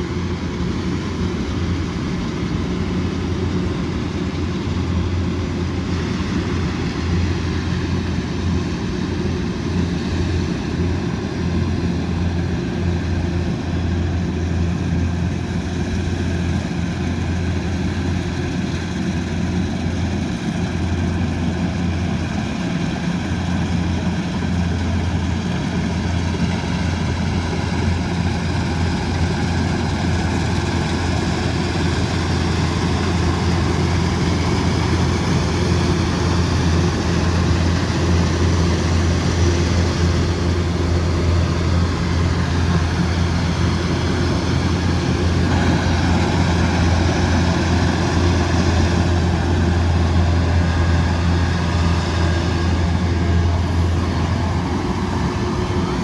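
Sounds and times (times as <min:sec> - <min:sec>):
diesel engine drone: 0:00.0 - 0:56.0
machinery noise: 0:00.1 - 0:56.0.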